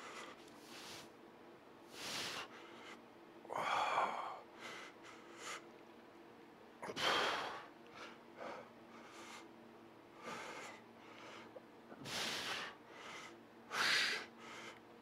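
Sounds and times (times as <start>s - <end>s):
man breathing hard: 0.0s - 1.1s, 1.9s - 5.7s, 6.9s - 14.9s
faint steady hum: 0.0s - 15.0s.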